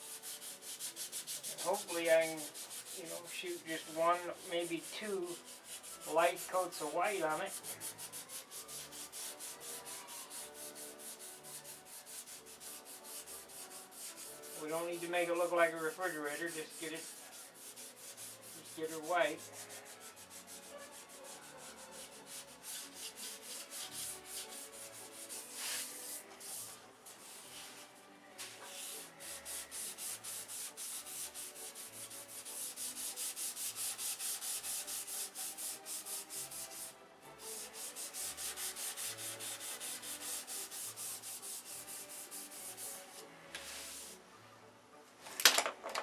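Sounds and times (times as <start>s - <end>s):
sandpaper rubbing: 0.0s - 44.2s.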